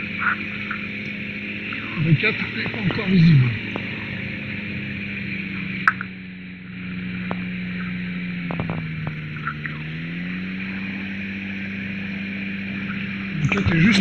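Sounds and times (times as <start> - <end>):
light aircraft engine running: 0.0 - 14.0.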